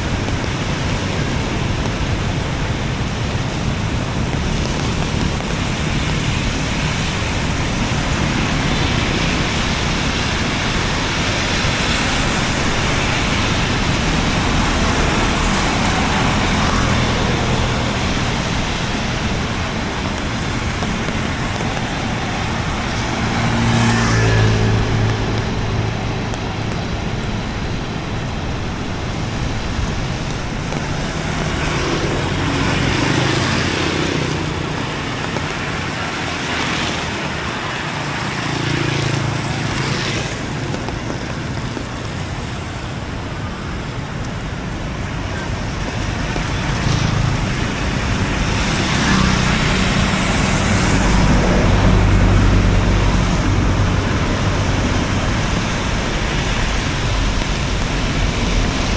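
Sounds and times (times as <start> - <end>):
car and motorbike engines passing: 0.0 - 58.9
rain and wet road noise: 0.0 - 58.9.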